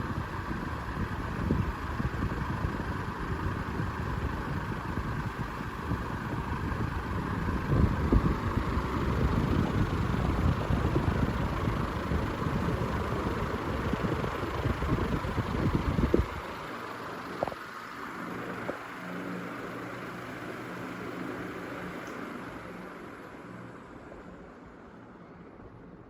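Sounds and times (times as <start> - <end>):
fan airflow buffeting microphone: 0.0 - 26.0
fan motor hum: 0.0 - 26.0.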